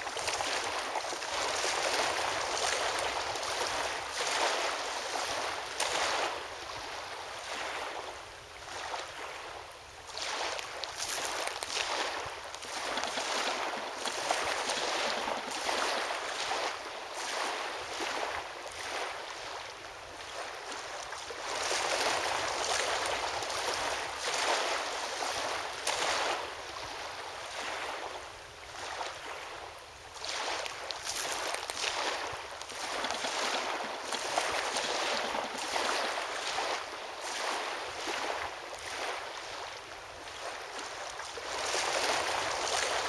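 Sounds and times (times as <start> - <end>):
small waves washing ashore: 0.0 - 43.0
wind: 0.0 - 43.0.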